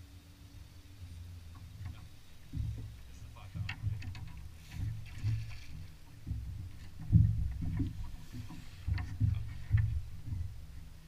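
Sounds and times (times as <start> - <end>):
water slapping against boat hull: 1.5 - 11.0.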